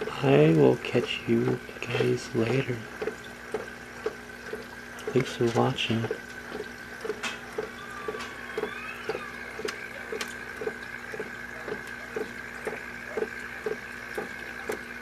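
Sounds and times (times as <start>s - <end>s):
aquarium air bubbler bubbling: 0.0s - 15.0s.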